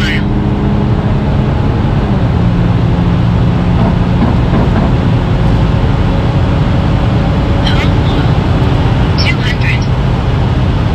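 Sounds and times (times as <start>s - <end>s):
diesel engine droning: 0.0s - 10.9s
road and wind noise: 0.0s - 10.9s.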